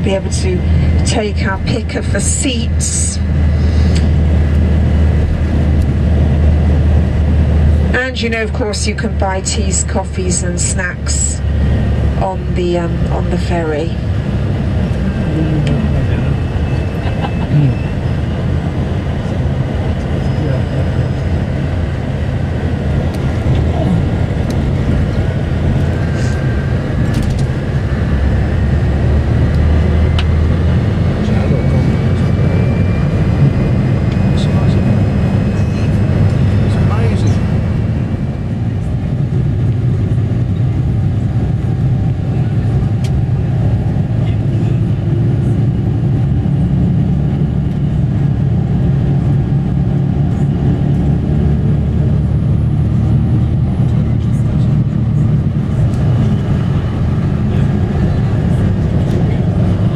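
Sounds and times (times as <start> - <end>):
large engines rumbling: 0.0 - 59.9.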